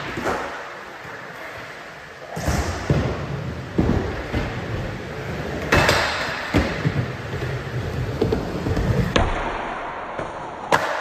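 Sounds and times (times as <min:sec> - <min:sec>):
skateboard wheels rolling: 0:00.0 - 0:09.4.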